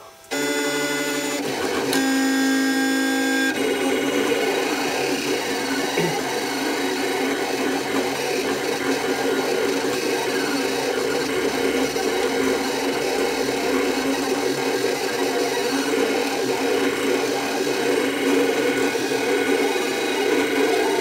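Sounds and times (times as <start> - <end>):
cutting plotter motors running: 0.2 - 21.0.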